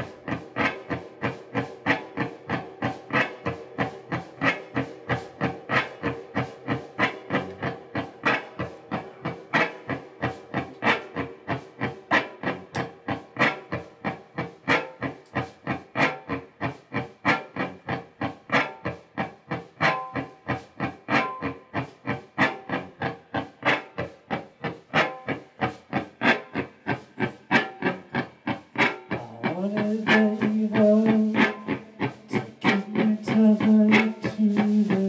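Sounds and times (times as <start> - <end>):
loud electric guitar through amplifier: 0.0 - 35.0.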